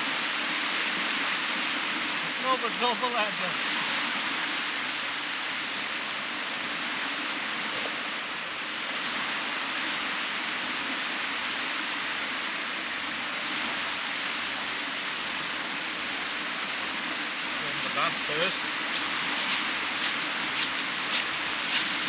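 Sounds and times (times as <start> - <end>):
surf washing on sandy beach: 0.0 - 22.0.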